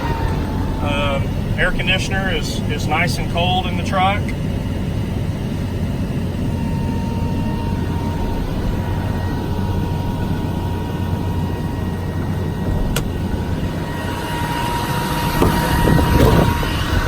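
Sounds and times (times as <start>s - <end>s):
air conditioning running: 0.0s - 17.0s
diesel engine idling: 0.0s - 17.0s.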